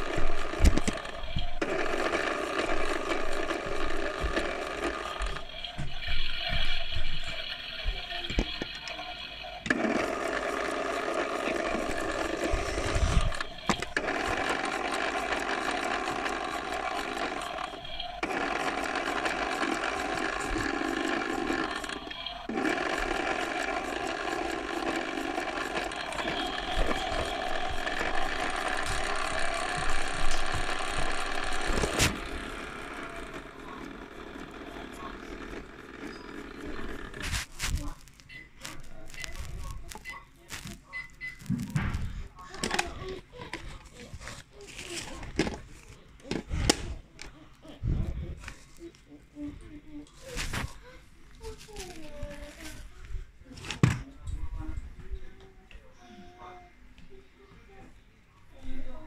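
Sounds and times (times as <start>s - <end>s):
toy washing machine whirring: 0.0s - 54.7s.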